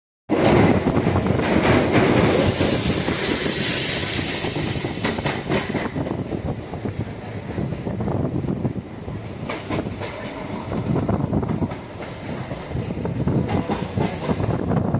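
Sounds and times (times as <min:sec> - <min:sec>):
train wheels rumbling on rails: 0:00.3 - 0:14.9.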